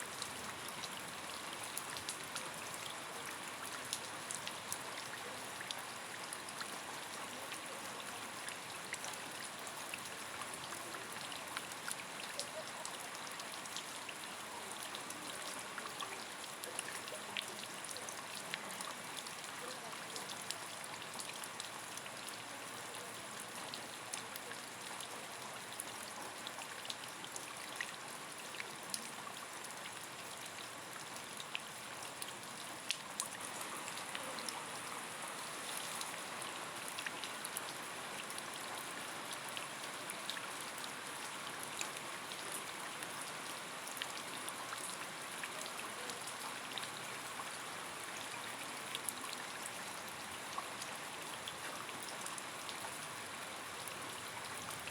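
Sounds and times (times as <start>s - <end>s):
rain falling: 0.0s - 54.9s
raindrops ticking on a surface: 0.0s - 54.9s.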